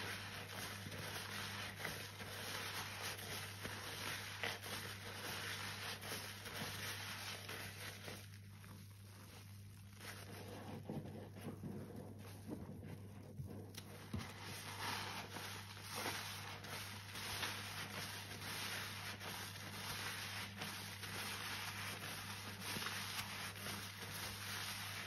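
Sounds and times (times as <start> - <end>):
sponge squishing in soapy water: 0.0 - 25.0.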